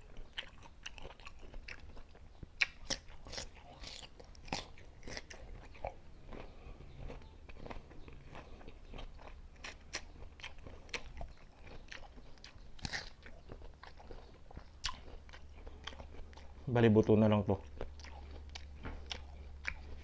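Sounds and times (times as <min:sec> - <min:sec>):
crunchy chewing of mango: 0:00.0 - 0:20.0.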